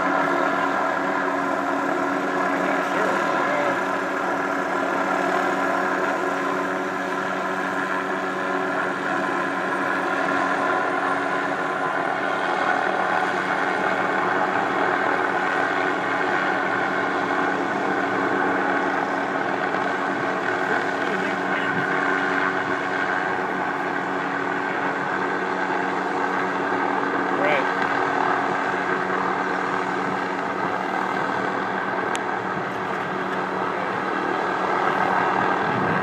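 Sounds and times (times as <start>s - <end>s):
steady engine hum: 0.0s - 36.0s.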